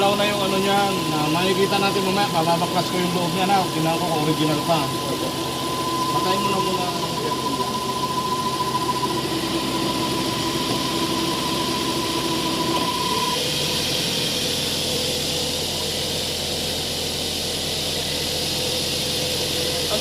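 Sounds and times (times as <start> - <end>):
car engine idling: 0.0 - 20.0
steady high whine: 0.0 - 20.0.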